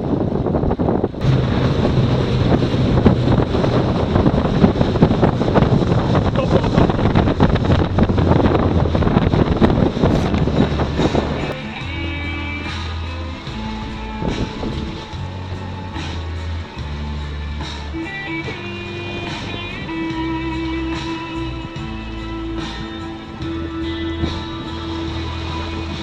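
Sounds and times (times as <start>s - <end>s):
waves rushing past: 0.0s - 26.0s
wind buffeting microphone: 0.0s - 26.0s.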